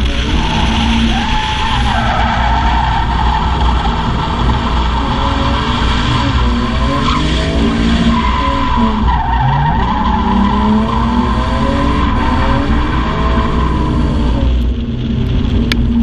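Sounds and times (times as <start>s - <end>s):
tyres squealing and skidding: 0.0s - 14.4s
car engine revving: 0.0s - 16.0s.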